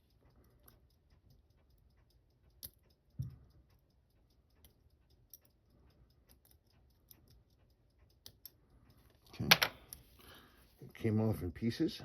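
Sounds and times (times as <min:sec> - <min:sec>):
metal tools clicking on watch: 0:00.0 - 0:10.4.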